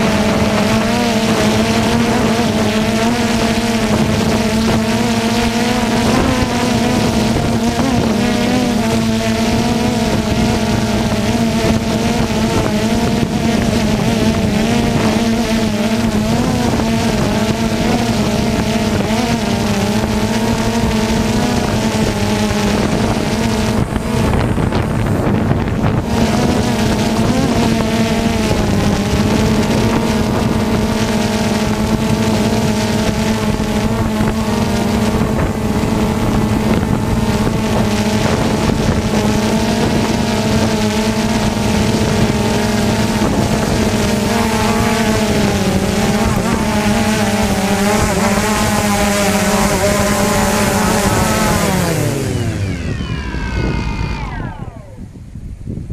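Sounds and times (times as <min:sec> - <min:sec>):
drone propellers buzzing: 0:00.0 - 0:55.9
wind noise on microphone: 0:00.0 - 0:55.9.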